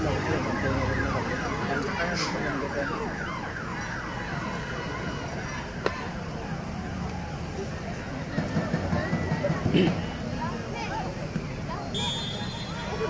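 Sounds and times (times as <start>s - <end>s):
crowd shouting: 0.0s - 10.7s.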